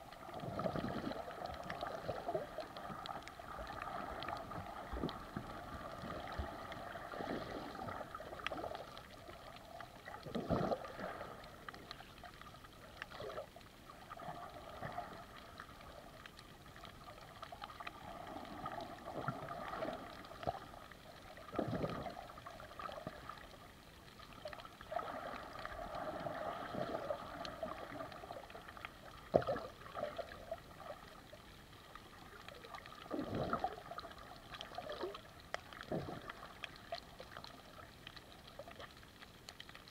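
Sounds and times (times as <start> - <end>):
muffled underwater water noise: 0.0 - 39.9
water swish: 0.0 - 39.9.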